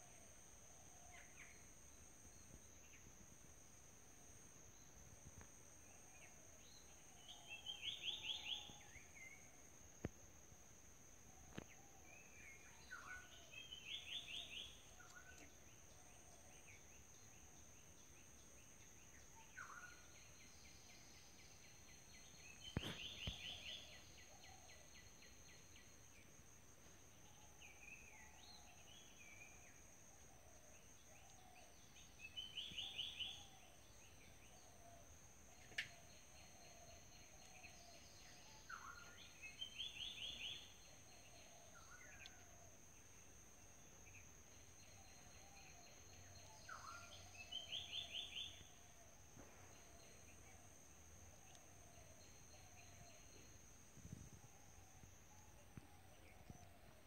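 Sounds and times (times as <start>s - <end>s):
faint high-pitched hum: 0.0s - 57.0s.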